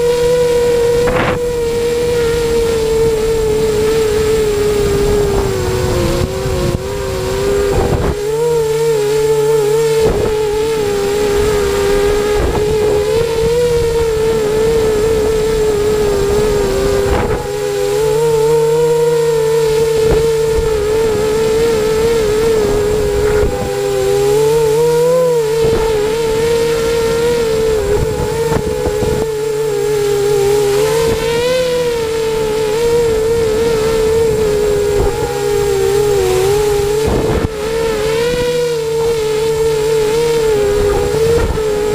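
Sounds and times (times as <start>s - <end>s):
quadcopter motors whining: 0.0s - 41.9s
wind rushing over microphone: 0.0s - 41.9s.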